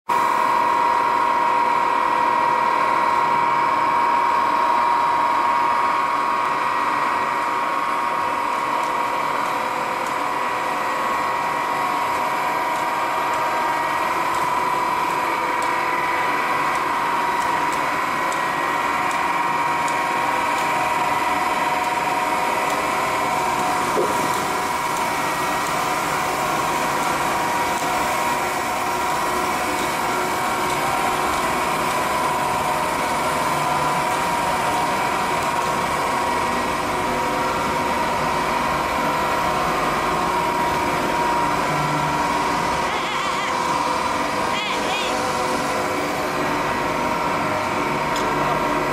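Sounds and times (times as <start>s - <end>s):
constant high whine: 0.1s - 48.9s
factory machinery drone: 0.1s - 48.9s.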